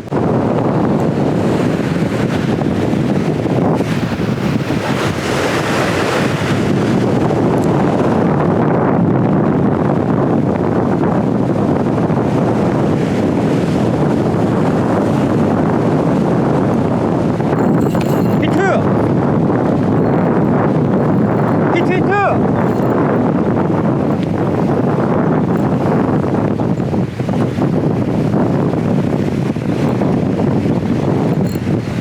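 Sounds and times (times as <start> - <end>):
strong wind into microphone: 0.0 - 32.0.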